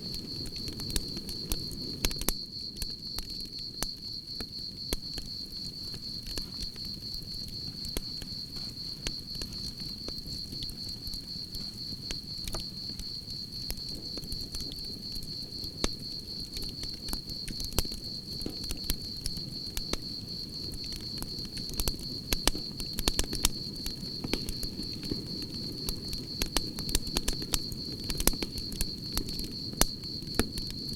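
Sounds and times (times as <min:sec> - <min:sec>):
campfire crackling and popping: 0:00.0 - 0:30.9
crickets chirping: 0:00.0 - 0:30.9
low rumble of flames: 0:00.0 - 0:30.9.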